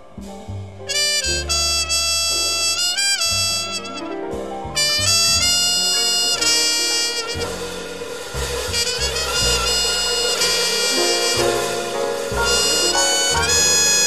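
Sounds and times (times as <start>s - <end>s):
double bass: 0.0s - 14.0s
drums: 0.0s - 14.0s
horn playing jazz melody: 0.9s - 14.0s.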